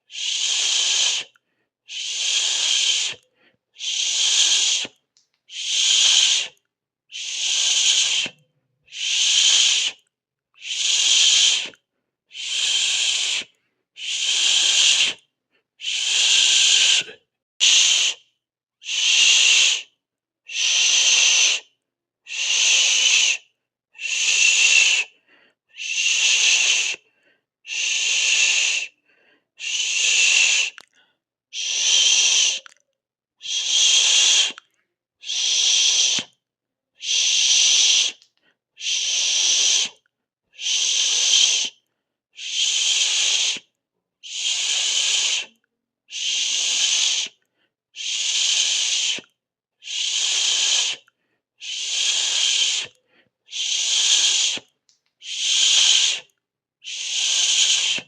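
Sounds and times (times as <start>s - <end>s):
person hissing through teeth: 0.0s - 15.2s, 15.8s - 19.9s, 20.5s - 21.7s, 22.3s - 27.1s, 27.7s - 29.0s, 29.6s - 30.9s, 31.6s - 32.8s, 33.4s - 36.4s, 37.0s - 40.0s, 40.6s - 41.8s, 42.4s - 47.4s, 48.0s - 58.0s.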